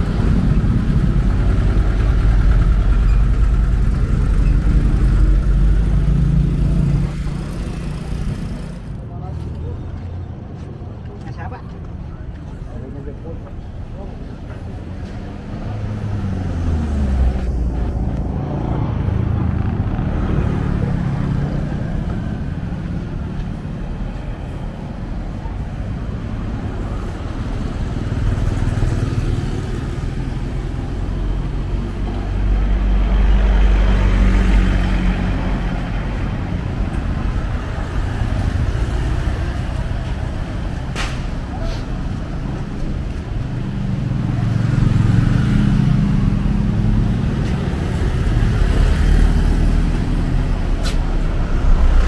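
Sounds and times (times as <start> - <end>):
vehicles passing in traffic: 0.0 - 52.0.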